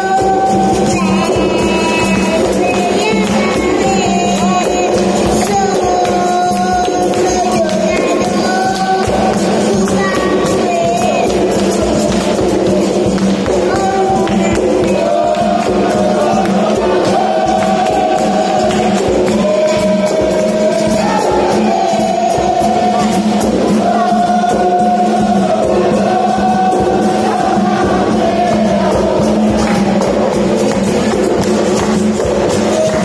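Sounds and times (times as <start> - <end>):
atabaque drum: 0.0 - 33.0
group singing: 0.0 - 33.0
pandeiros: 0.0 - 33.0.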